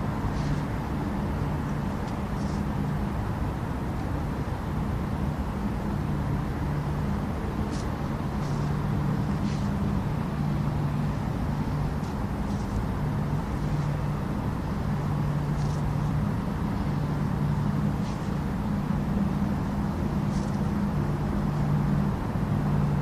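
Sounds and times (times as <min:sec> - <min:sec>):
low mechanical drone: 0:00.0 - 0:23.0.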